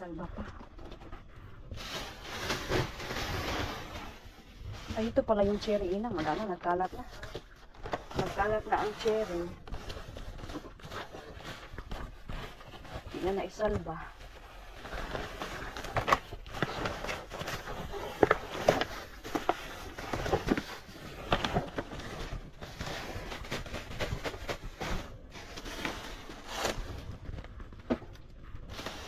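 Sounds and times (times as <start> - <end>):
plastic bags rustling: 0.0 - 29.0.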